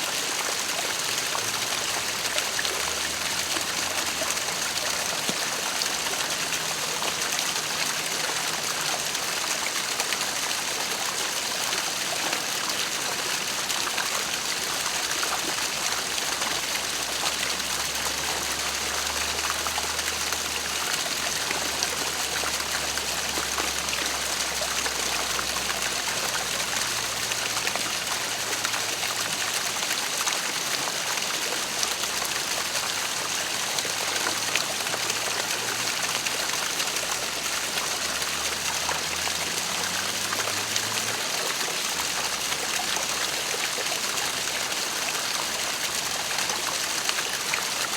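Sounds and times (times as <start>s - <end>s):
waterfall rushing and splashing: 0.0s - 47.9s.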